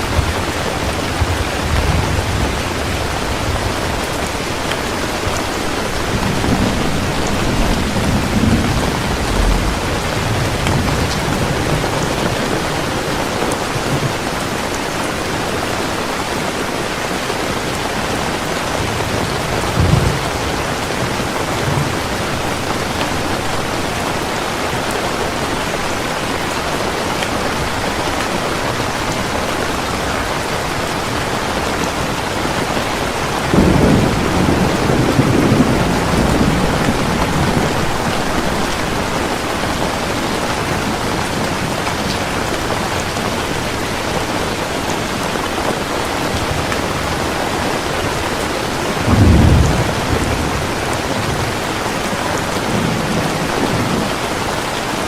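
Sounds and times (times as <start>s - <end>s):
thunder rumbles: 0.0s - 26.8s, 27.5s - 54.7s
heavy rain falling: 0.0s - 55.0s.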